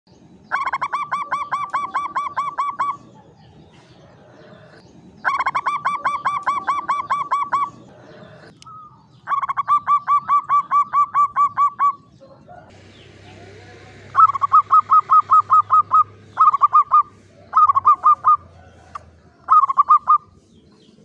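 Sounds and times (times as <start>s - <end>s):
dove cooing: 0.4s - 21.0s.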